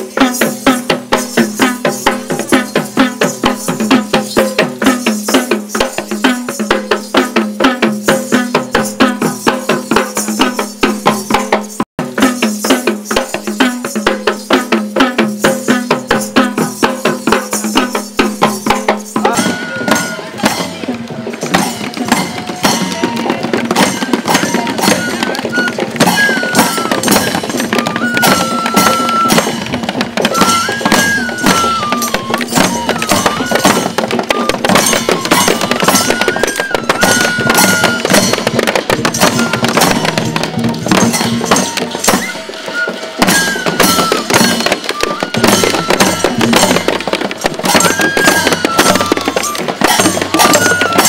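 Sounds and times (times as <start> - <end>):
drums beating: 0.0 - 51.0
hand cymbals: 0.0 - 51.0.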